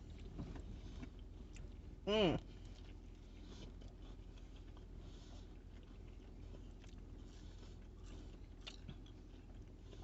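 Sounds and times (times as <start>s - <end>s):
chewing crispy food: 0.0s - 10.0s
low steady hum: 0.0s - 10.0s.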